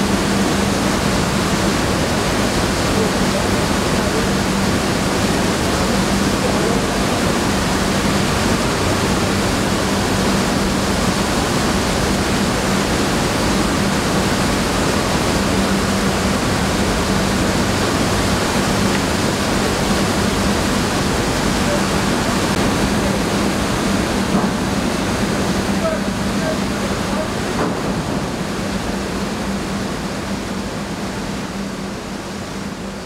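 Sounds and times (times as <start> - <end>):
mill machinery rushing noise: 0.0 - 33.0.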